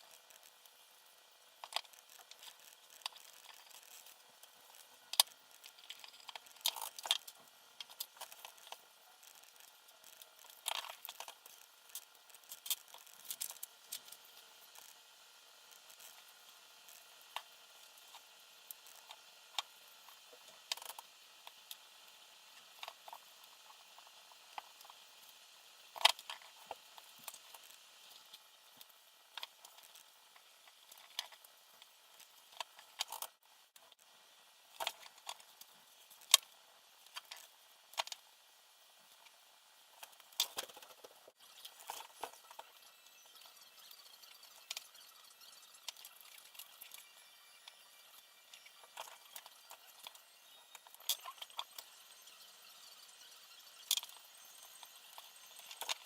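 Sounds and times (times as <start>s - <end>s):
small parts and tools clicking: 0.0s - 34.1s, 34.7s - 56.0s.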